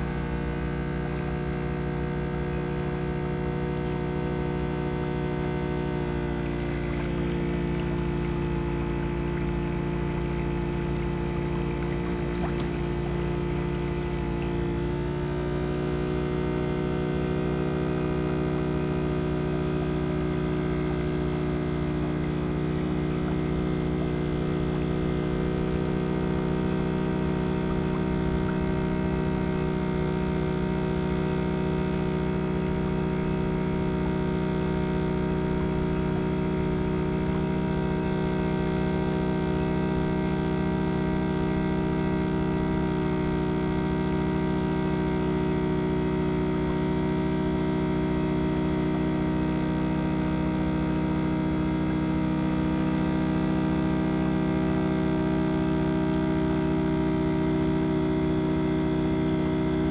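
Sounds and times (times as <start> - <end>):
boat engine rumbling: 0.0 - 52.9.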